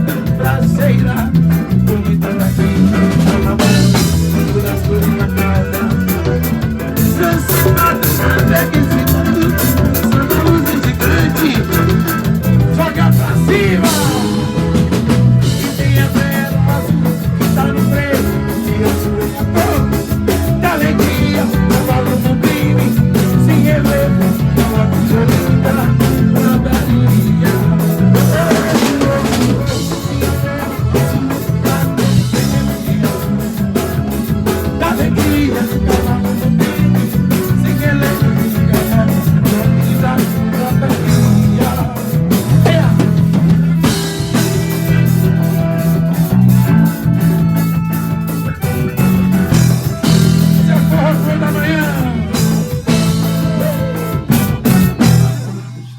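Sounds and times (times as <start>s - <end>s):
bass guitar: 0.0s - 55.9s
drum kit fast beat: 0.0s - 55.9s
guitar: 0.0s - 55.9s.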